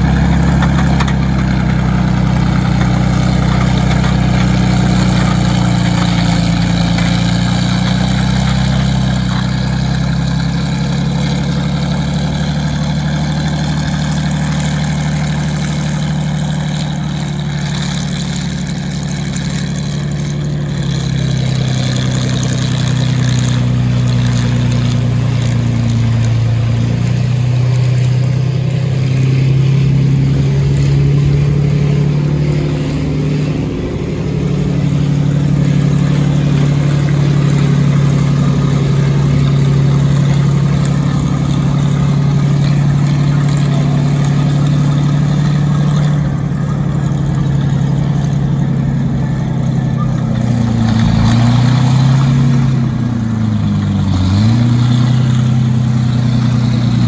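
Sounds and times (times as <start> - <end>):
tank engine droning: 0.0 - 57.0.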